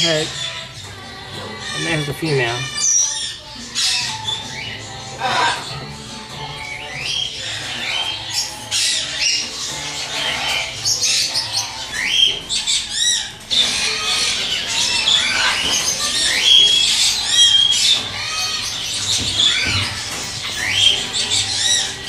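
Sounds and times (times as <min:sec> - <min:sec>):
parrots squawking and screeching: 0:00.0 - 0:22.0.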